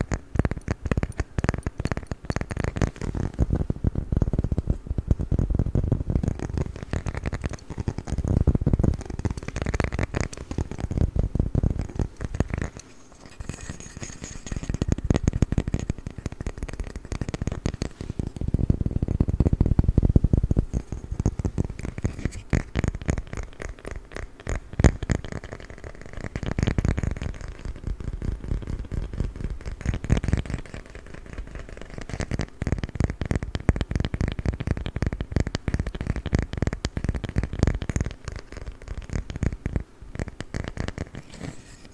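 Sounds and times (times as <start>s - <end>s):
fingers tapping on wooden lid: 0.0s - 41.9s.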